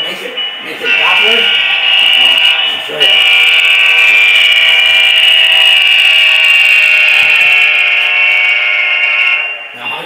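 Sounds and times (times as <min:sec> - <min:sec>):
model locomotive buzzing whine: 0:00.9 - 0:09.7.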